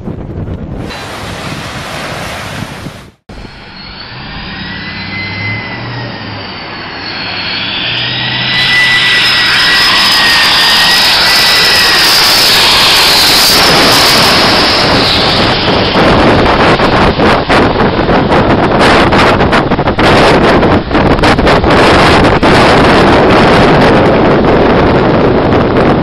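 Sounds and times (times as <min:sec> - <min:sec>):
wind noise on microphone: 0:00.0 - 0:26.0
jet engine whine: 0:00.7 - 0:26.0.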